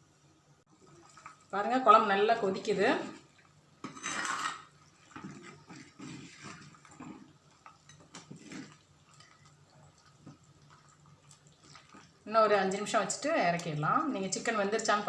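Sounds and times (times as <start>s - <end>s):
curry bubbling in a pot: 0.7s - 15.0s.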